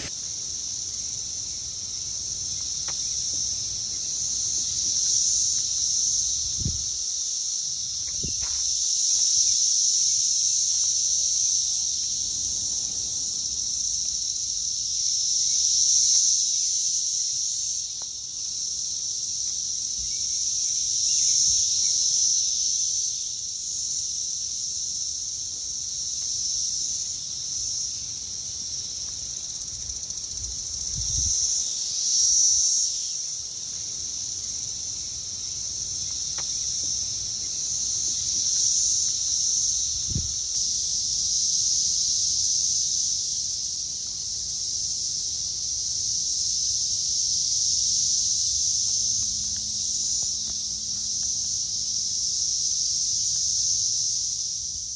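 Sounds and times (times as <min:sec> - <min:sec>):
cicadas droning: 0:00.0 - 0:54.9.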